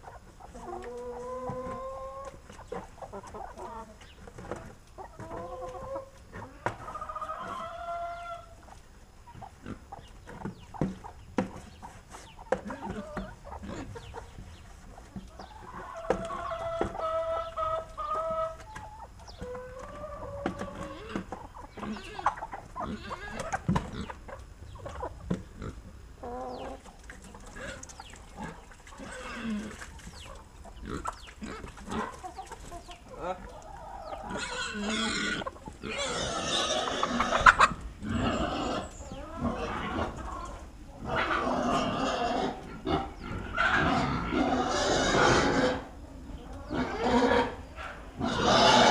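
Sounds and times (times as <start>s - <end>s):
chickens clucking and squawking: 0.0s - 48.9s.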